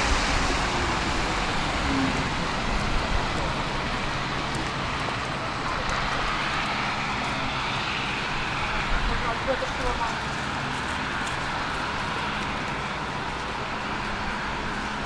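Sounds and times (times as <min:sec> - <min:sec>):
tram rolling on tracks: 0:00.0 - 0:15.0
tyres hissing on wet road: 0:00.0 - 0:15.0.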